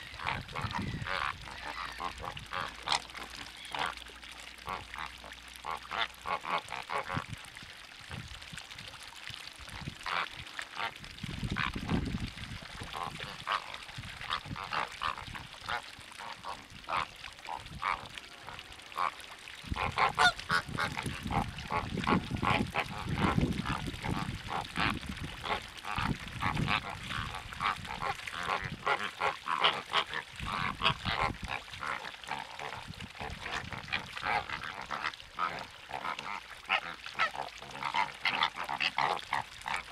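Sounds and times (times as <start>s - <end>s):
waterbirds honking: 0.0s - 7.4s, 9.7s - 12.0s, 12.8s - 39.9s.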